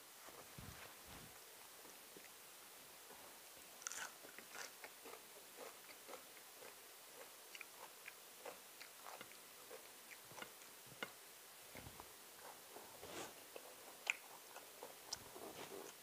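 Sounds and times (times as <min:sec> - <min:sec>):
faint chewing: 0:00.3 - 0:02.4, 0:03.0 - 0:16.0.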